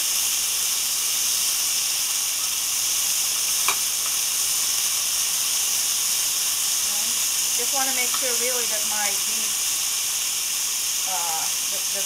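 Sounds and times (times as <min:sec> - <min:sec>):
meat and onions sizzling in a pan: 0:00.0 - 0:12.0.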